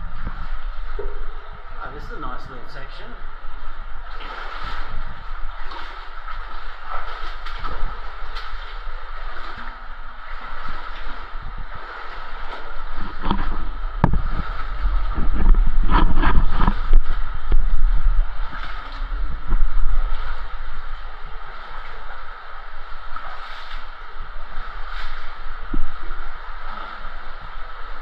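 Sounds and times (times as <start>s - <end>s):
low rumble on microphone: 0.0s - 28.0s
water sloshing and gurgling: 0.0s - 28.0s.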